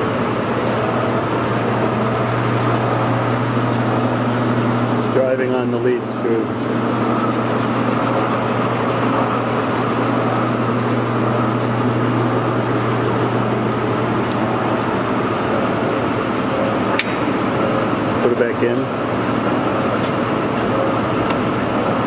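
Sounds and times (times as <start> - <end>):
lathe motor humming: 0.0 - 22.0.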